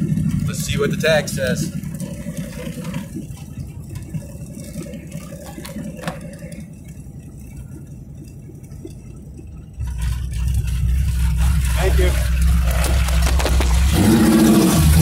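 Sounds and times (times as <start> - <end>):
car engine rumbling inside cabin: 0.0 - 15.0.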